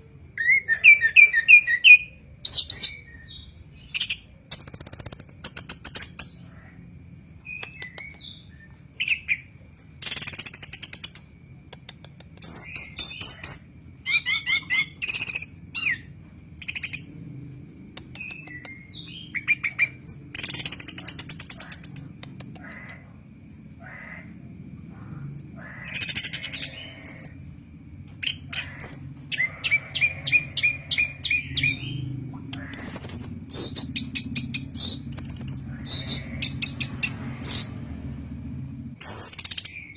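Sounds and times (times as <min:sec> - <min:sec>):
thrush singing trills: 0:00.0 - 0:39.9.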